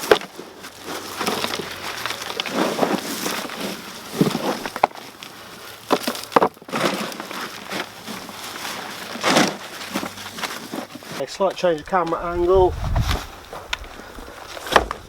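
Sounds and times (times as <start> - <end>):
hands digging through dry soil: 0.0 - 15.0.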